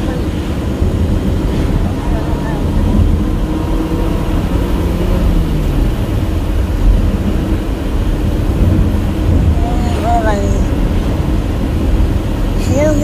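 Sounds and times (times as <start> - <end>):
car engine drone: 0.0 - 13.0
tyre road noise: 0.0 - 13.0.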